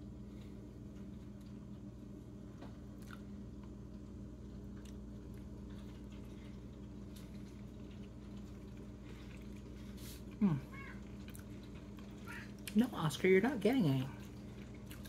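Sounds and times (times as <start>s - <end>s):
chewing soft cake: 0.0s - 15.0s
steady low hum: 0.0s - 15.0s.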